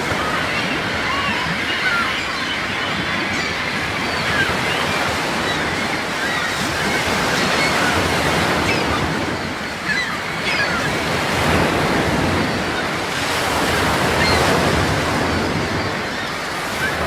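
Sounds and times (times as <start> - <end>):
ocean waves washing: 0.0 - 17.0.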